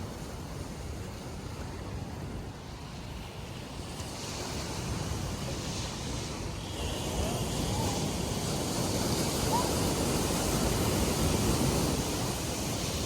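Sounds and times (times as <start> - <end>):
sea waves on sandy beach: 0.1 - 13.0.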